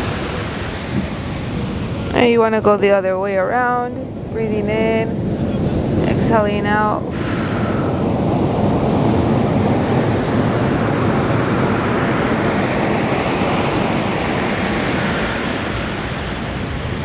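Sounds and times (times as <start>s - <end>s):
ocean surf washing up beach: 0.0s - 17.0s.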